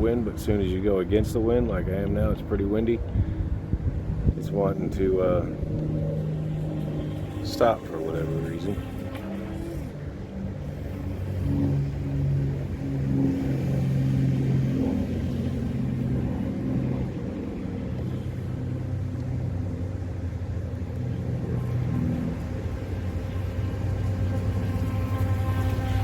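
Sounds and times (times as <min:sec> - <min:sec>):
low droning hum: 0:00.0 - 0:26.0
wind buffeting microphone: 0:00.0 - 0:26.0.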